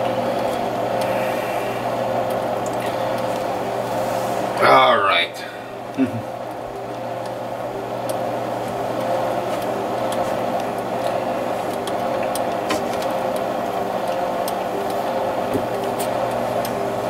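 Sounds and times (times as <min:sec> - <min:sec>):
oven motor hum: 0:00.0 - 0:17.0.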